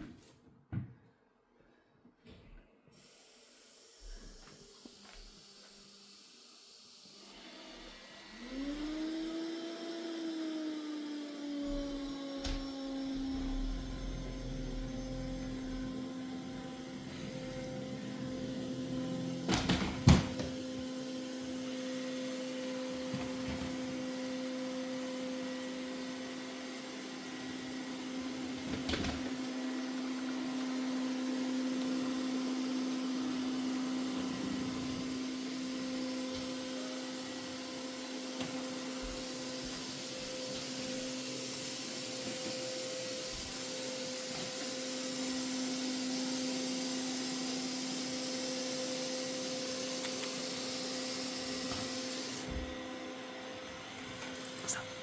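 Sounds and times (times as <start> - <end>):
robot vacuum motor humming: 7.5 - 28.7, 29.4 - 55.0.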